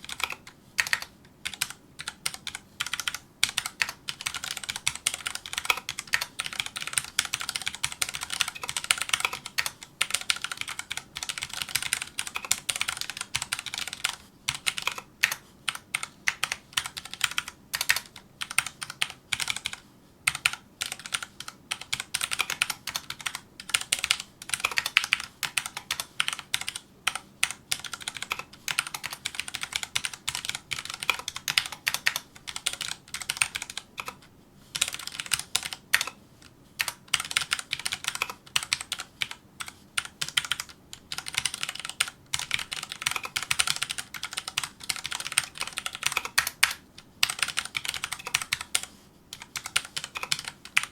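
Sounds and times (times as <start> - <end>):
mechanical keyboard typing: 0.0 - 36.2, 36.8 - 50.9.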